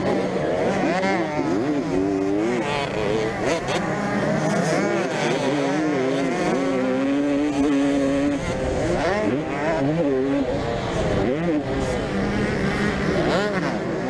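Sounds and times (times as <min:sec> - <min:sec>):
two-stroke motocross engine revving: 0:00.0 - 0:14.0.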